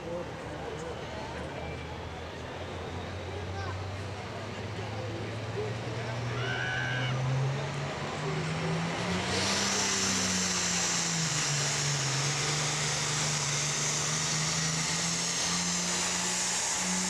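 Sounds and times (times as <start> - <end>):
tractor diesel engine at full power: 0.0 - 17.0.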